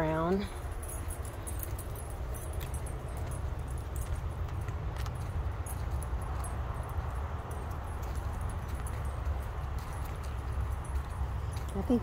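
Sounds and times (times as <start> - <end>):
dog collar tags jingling: 0.0 - 12.0
footsteps on dirt trail: 0.0 - 12.0.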